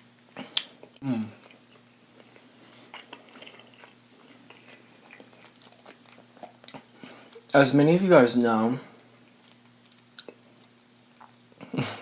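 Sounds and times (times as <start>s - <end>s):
person chewing food: 0.3s - 7.6s, 9.0s - 11.7s.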